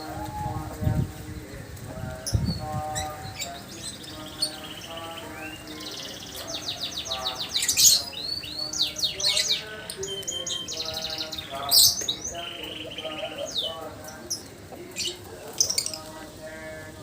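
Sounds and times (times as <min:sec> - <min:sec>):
lovebird chattering trill: 0:02.2 - 0:16.1.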